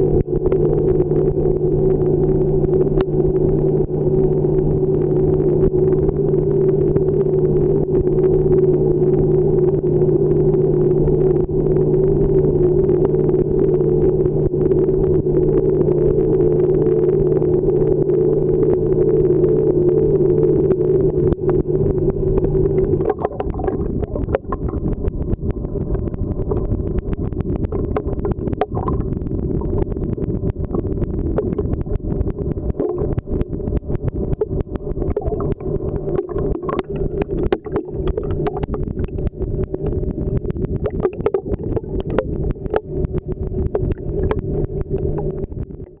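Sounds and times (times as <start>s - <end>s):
sharp clicks and crackles: 0.0s - 46.0s
underwater low droning hum: 0.0s - 46.0s.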